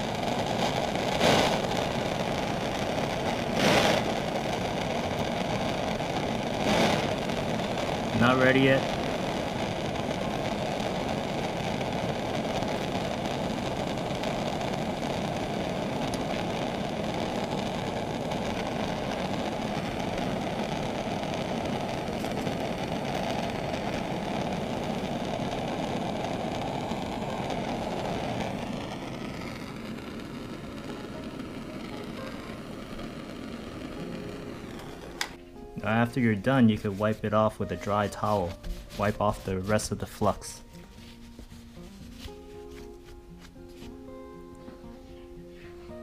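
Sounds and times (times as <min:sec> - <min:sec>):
propane torch rushing: 0:00.0 - 0:46.0.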